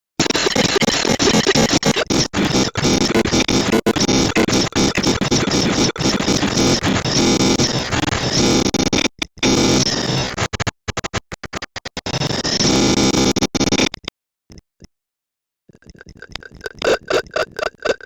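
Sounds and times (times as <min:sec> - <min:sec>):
distorted synthesizer-like noise: 0:00.2 - 0:13.8, 0:15.8 - 0:18.0.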